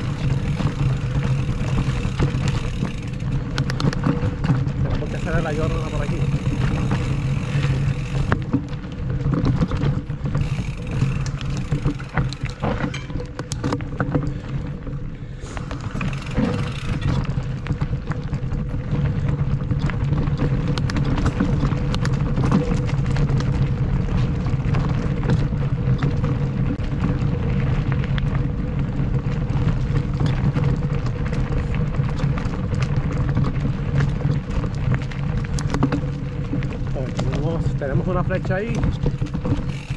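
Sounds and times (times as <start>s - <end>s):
bike rattling over roots: 0.0s - 39.9s
bike tyres rolling on dirt: 0.0s - 39.9s.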